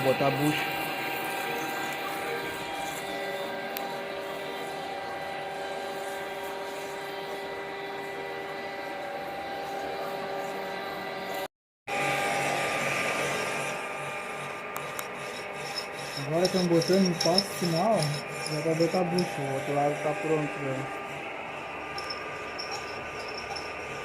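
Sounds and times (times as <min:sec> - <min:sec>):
drilling machine humming and whining: 0:00.0 - 0:24.0.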